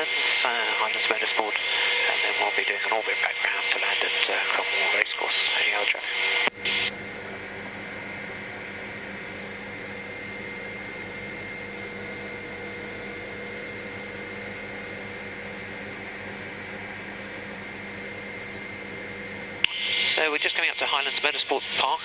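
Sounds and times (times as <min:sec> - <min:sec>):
constant whining tones: 0:00.0 - 0:22.0
helicopter engine and rotor drone: 0:00.0 - 0:22.0.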